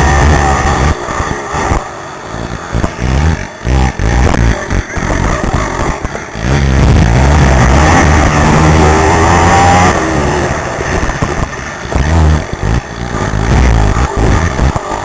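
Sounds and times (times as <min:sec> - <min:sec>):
quad engine revving: 0:00.0 - 0:15.0.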